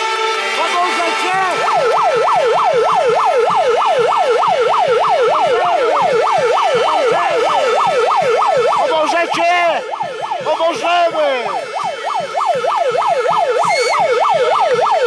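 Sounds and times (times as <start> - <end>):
electronic siren yelping: 0.0 - 15.0
siren wailing: 0.0 - 15.0.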